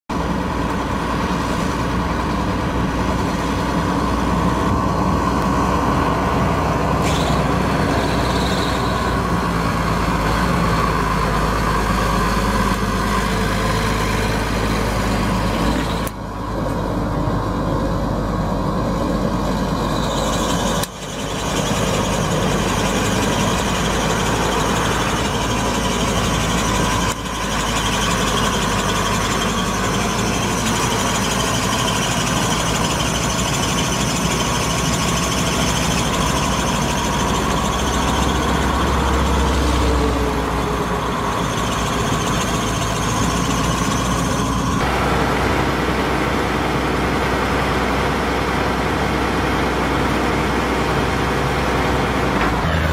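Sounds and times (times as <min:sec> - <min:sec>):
tractor diesel engine running: 0:00.1 - 0:52.9.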